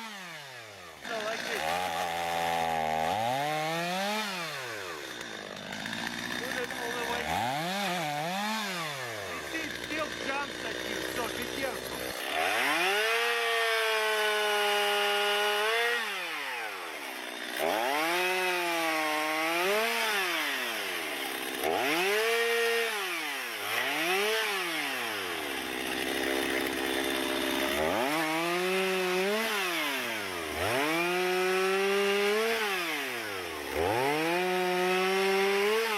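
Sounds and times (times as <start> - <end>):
chainsaw revving: 0.0 - 35.9.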